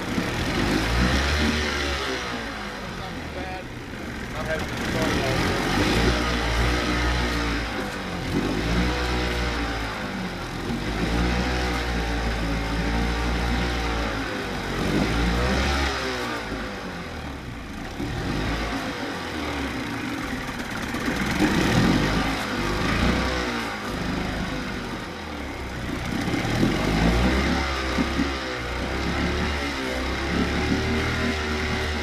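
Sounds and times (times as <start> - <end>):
outboard motor revving: 0.0 - 32.0.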